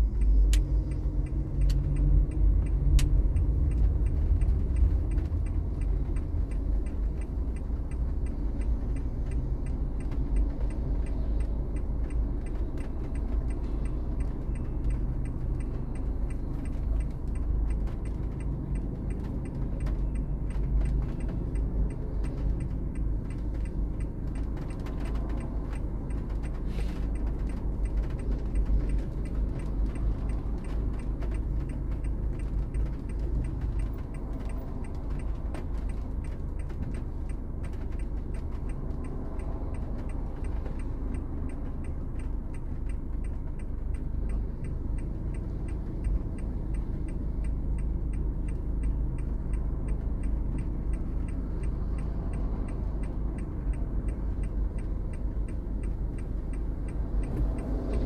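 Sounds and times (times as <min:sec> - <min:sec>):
car engine and tyres rumbling: 0:00.0 - 0:58.0
faint regular ticking: 0:00.0 - 0:58.0.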